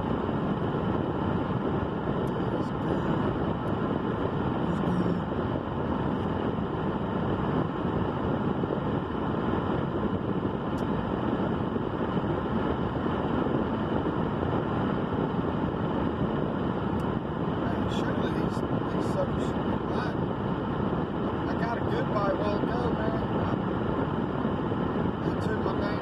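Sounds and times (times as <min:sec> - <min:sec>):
steady low rumbling: 0:00.0 - 0:26.0.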